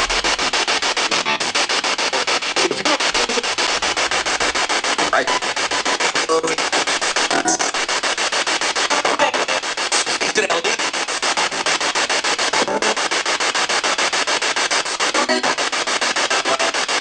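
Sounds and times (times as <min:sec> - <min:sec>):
pulsing radio static: 0:00.0 - 0:17.0
snatches of broadcast sound: 0:00.0 - 0:17.0.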